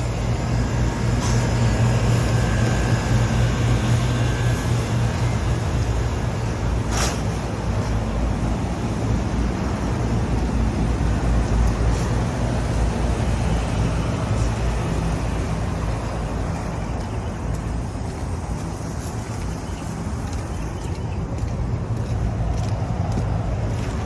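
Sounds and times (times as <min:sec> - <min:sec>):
hvac unit humming: 0:00.0 - 0:24.0.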